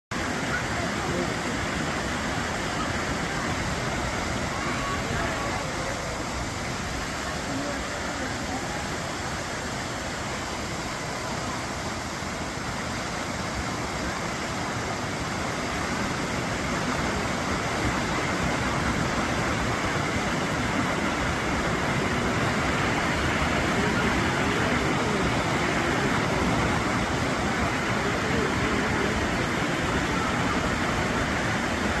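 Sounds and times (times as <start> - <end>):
waterfall rushing: 0.1 - 32.0.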